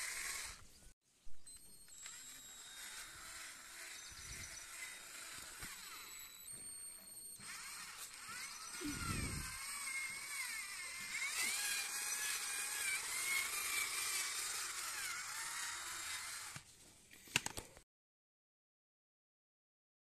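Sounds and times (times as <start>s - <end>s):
cordless drill whining: 0.0s - 0.8s, 1.4s - 16.7s.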